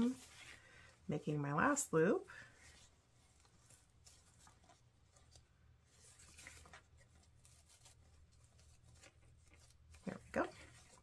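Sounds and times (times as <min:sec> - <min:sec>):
fabric ribbon rustling: 0:00.0 - 0:11.0.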